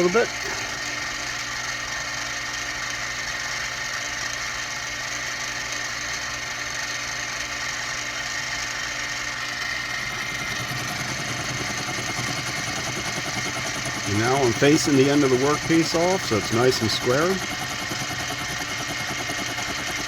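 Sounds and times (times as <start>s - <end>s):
mini mill running: 0.0s - 20.0s.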